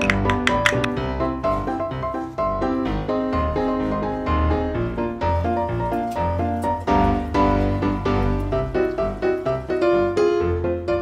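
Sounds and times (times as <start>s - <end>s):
instrumental keyboard music: 0.0s - 11.0s.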